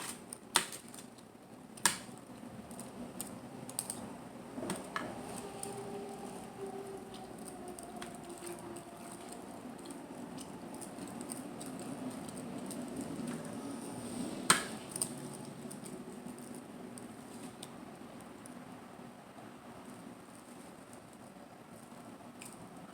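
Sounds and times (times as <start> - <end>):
soft chewing: 2.2 - 22.9.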